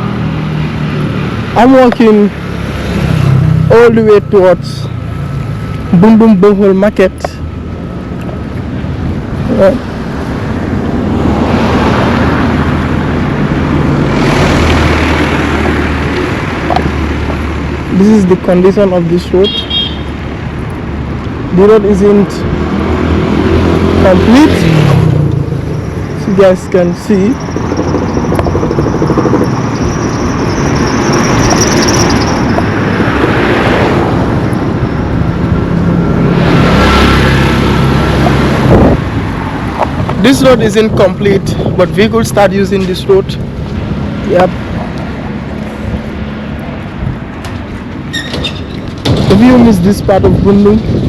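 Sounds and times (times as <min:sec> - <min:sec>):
steady engine hum: 0:00.0 - 0:51.0
tyre and road noise: 0:00.0 - 0:51.0
vehicles passing: 0:00.0 - 0:51.0.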